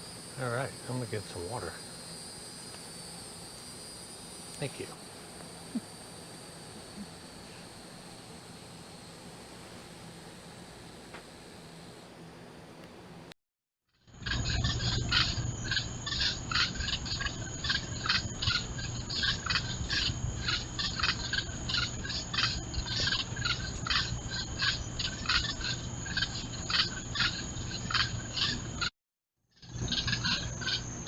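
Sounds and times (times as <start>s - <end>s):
high-pitched insect buzz: 0.0s - 12.0s, 14.1s - 28.9s
crickets chirping: 0.0s - 12.6s, 14.1s - 28.9s, 29.6s - 31.0s.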